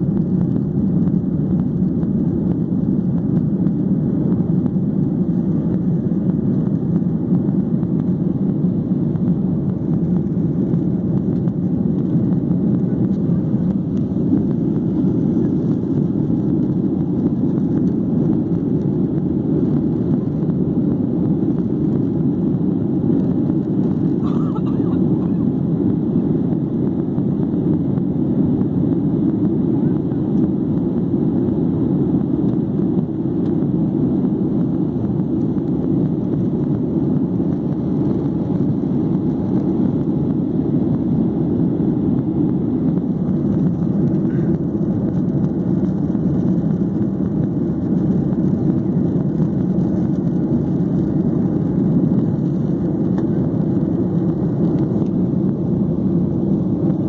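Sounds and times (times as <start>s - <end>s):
jet engine and airflow rush: 0.0s - 57.0s.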